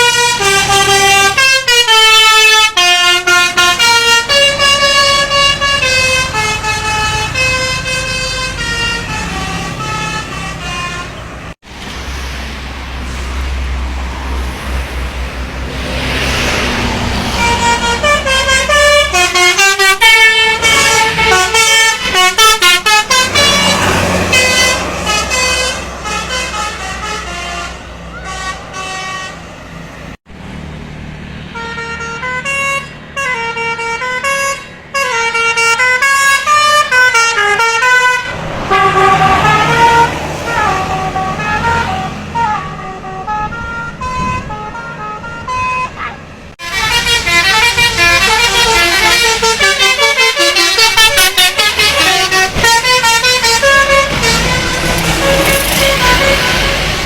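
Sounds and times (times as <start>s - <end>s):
bus musical horns playing tunes: 0.0s - 11.6s, 15.0s - 30.2s, 31.4s - 57.0s
bus engines running: 0.0s - 57.0s.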